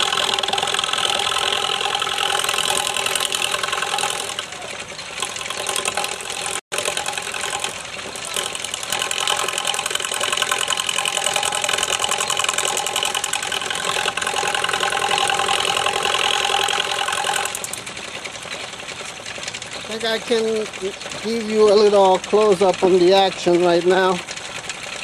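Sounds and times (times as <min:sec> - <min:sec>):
rapid ticking rattle: 0:00.0 - 0:25.0
wood lathe whirring: 0:00.0 - 0:25.0.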